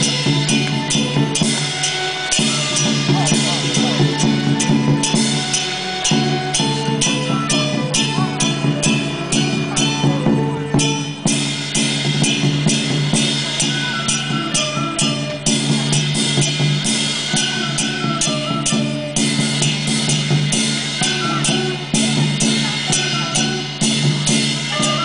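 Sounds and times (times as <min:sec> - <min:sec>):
drums striking steady beat: 0:00.0 - 0:25.0.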